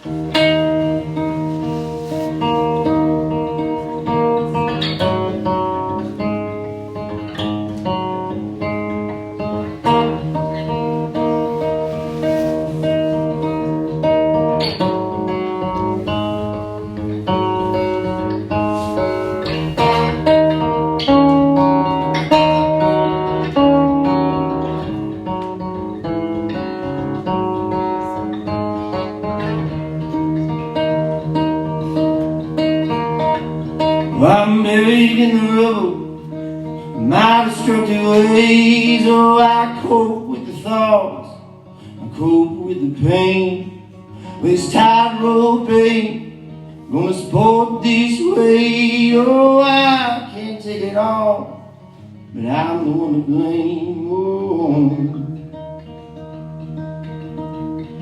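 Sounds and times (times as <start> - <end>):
guitar picked and strummed: 0.0 - 58.0.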